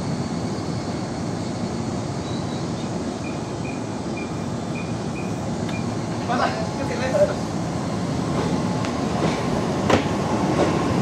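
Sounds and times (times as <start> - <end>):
electric train running past: 0.0 - 11.0.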